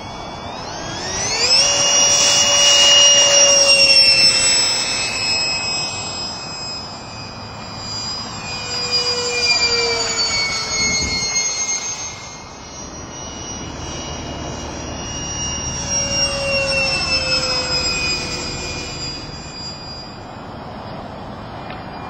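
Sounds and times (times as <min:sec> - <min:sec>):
electric ducted fan whine: 0:00.0 - 0:22.0.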